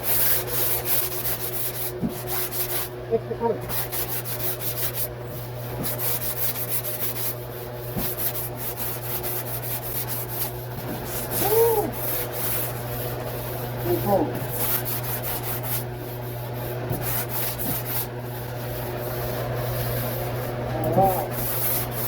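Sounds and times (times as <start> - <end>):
orbital sander on metal: 0.0 - 22.0.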